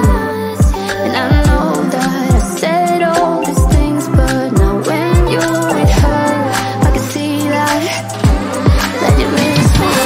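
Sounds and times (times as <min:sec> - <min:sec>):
r and b pop music: 0:00.0 - 0:10.0.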